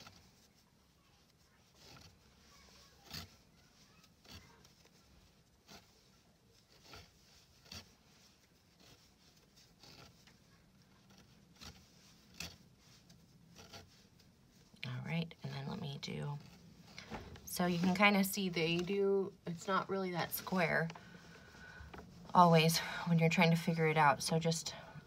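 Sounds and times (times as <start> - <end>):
crochet hook rubbing yarn: 0.0 - 25.0.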